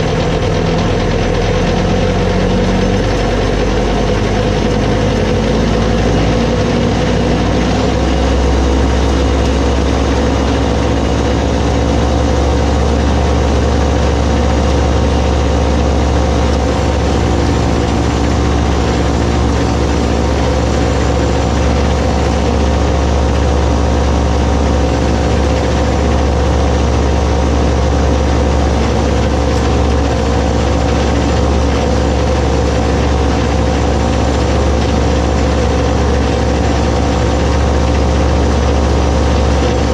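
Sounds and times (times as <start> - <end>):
snowblower auger spinning: 0.0 - 39.9
tractor engine running: 0.0 - 39.9.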